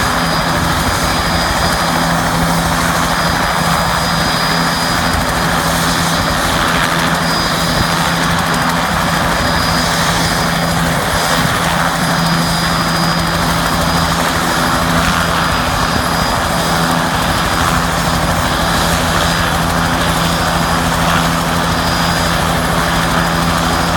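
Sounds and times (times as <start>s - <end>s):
helicopter running: 0.0s - 23.9s.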